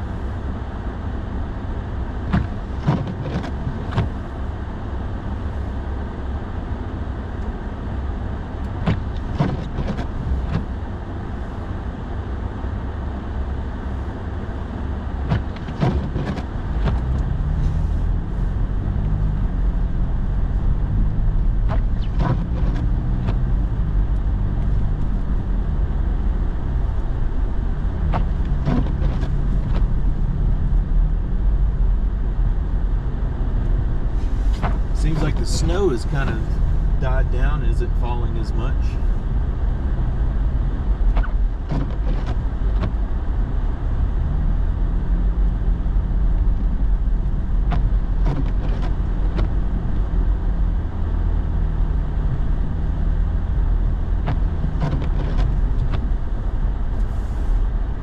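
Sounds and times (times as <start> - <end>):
truck engine and tyre rumble: 0.0 - 58.0.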